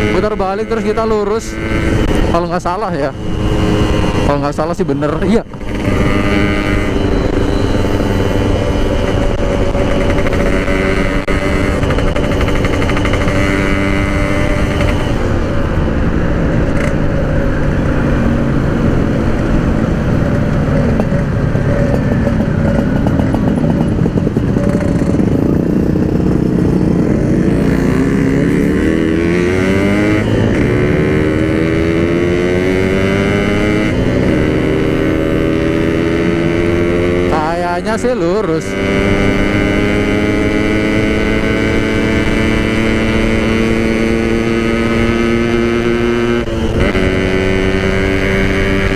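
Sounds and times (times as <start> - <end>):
two-stroke motorcycle engine revving: 0.0 - 48.9.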